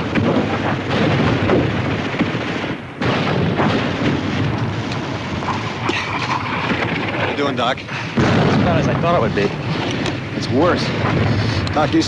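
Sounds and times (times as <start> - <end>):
gunfire: 0.0 - 12.0
shell explosions: 0.0 - 12.0.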